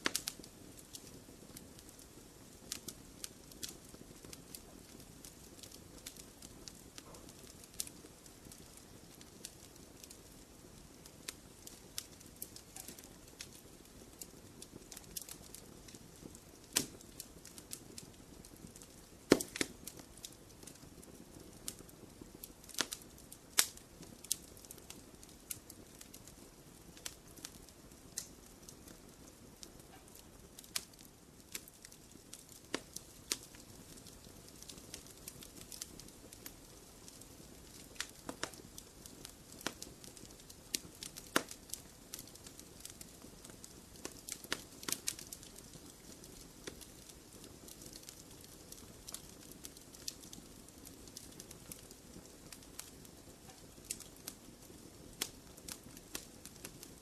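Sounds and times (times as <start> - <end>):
fire low rumble: 0.0 - 57.0
wood fire crackling and popping: 0.0 - 57.0.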